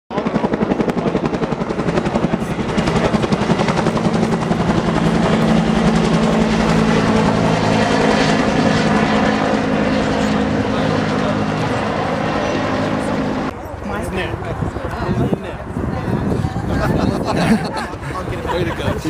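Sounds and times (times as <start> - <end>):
helicopter rotor beating: 0.1 - 19.0.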